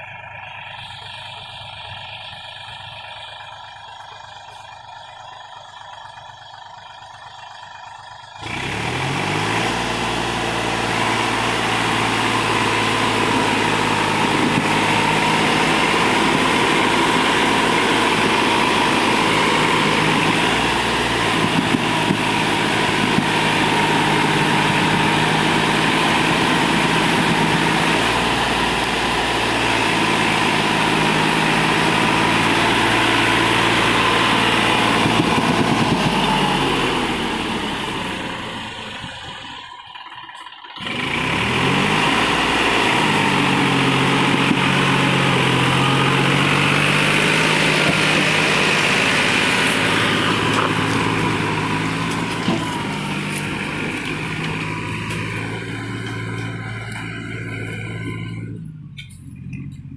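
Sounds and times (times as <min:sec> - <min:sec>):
tractor diesel engine running hard: 0:00.0 - 0:59.9.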